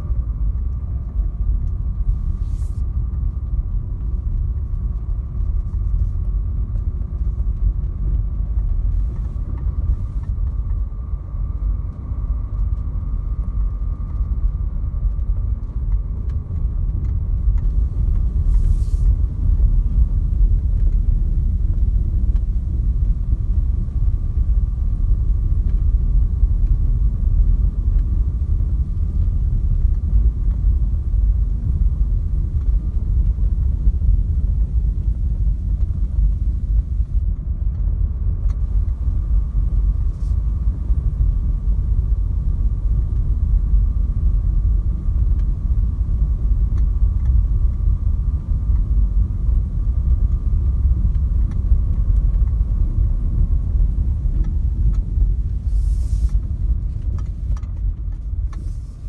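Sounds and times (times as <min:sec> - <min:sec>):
engine and road noise rumble: 0:00.0 - 0:59.0
faint steady whine: 0:00.0 - 0:59.0.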